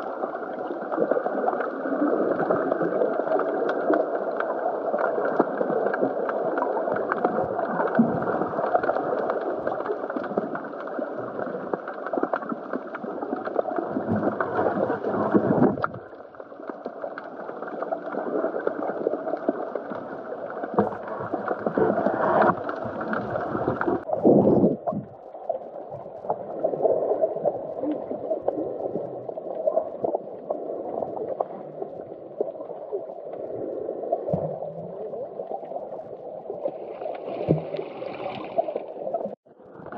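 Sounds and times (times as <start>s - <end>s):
muffled underwater gurgling rush: 0.0s - 39.9s.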